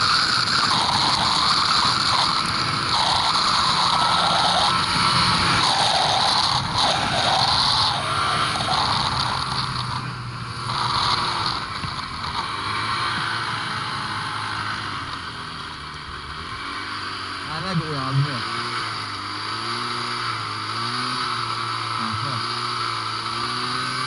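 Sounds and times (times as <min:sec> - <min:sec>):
snowmobile engine running: 0:00.0 - 0:24.0.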